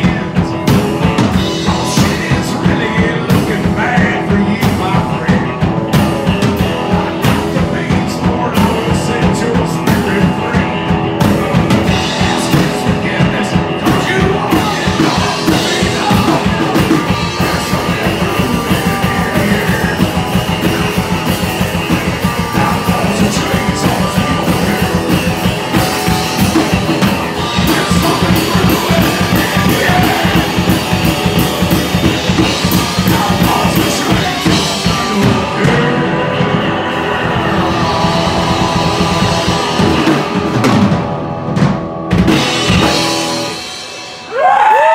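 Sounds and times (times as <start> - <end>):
drum kit beat: 0.0 - 44.9
electric guitar: 0.0 - 44.9.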